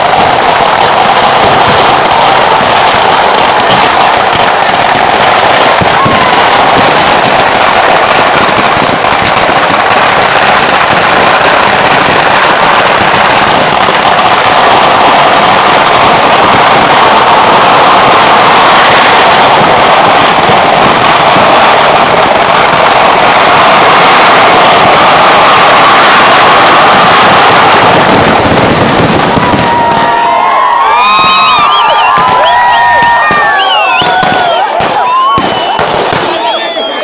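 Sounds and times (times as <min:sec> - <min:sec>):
fireworks and firecrackers crackling: 0:00.0 - 0:37.0.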